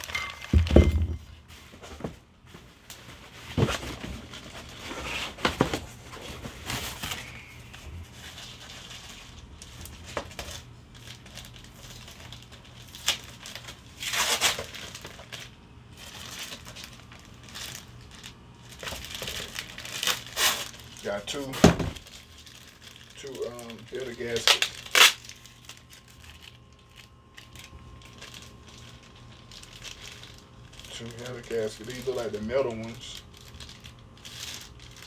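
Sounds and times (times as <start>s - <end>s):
packing material rustling: 0.0s - 35.0s.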